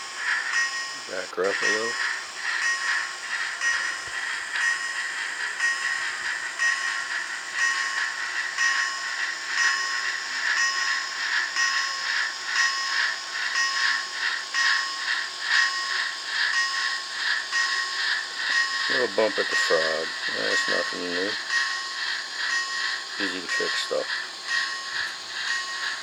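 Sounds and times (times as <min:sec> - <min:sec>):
model train steam chuffs with hiss: 0:00.0 - 0:26.0
steady high whine: 0:00.0 - 0:26.0.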